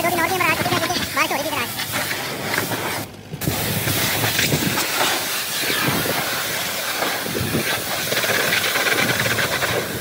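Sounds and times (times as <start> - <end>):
pressure washer spraying water: 0.0 - 10.0.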